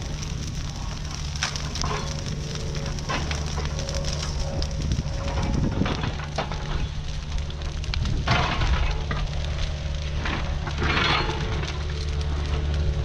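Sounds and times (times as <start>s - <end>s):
excavator engine humming: 0.0s - 13.0s
fire crackling and hissing: 0.0s - 13.0s.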